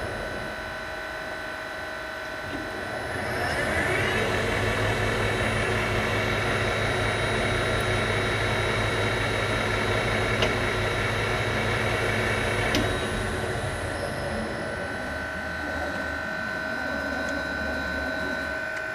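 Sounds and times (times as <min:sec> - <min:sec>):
lathe hum and whine: 0:00.0 - 0:18.9.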